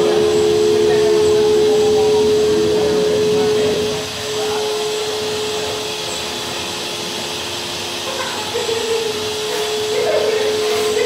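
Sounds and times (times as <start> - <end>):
bit engraving wood: 0.0 - 11.0
router spindle whine: 0.0 - 11.0.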